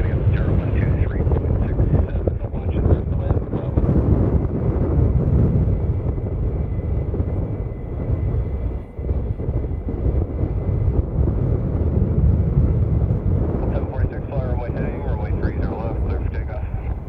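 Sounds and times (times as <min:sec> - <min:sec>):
faint steady whine: 0:00.0 - 0:17.0
jet engines rumbling: 0:00.0 - 0:17.0.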